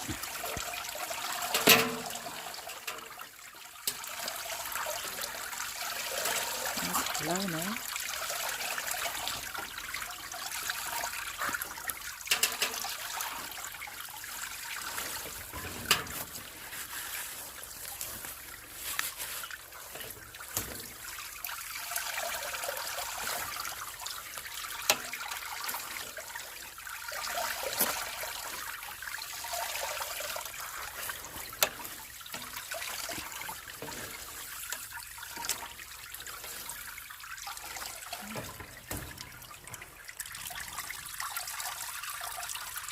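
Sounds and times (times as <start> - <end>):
water trickling into a container: 0.0 - 42.9.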